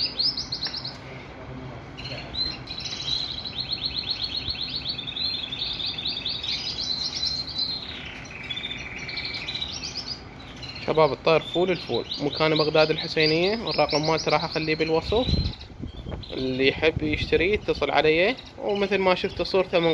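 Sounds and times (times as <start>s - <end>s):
canary singing trills: 0.0s - 1.2s, 1.9s - 19.9s.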